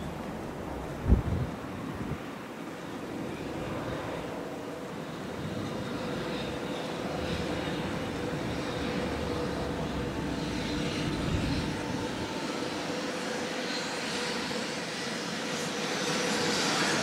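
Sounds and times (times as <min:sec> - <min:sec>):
freight train rumble: 0:00.0 - 0:14.6
locomotive hum: 0:00.0 - 0:15.5.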